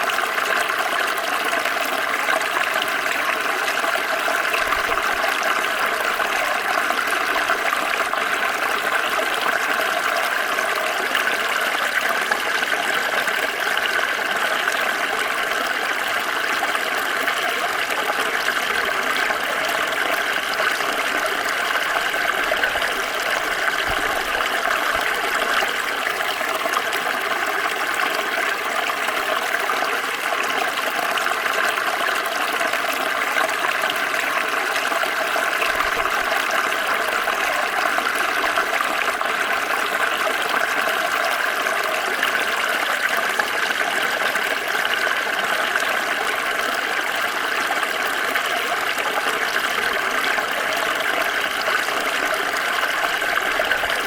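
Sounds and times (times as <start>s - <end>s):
stream water splashing over stones: 0.0s - 54.0s.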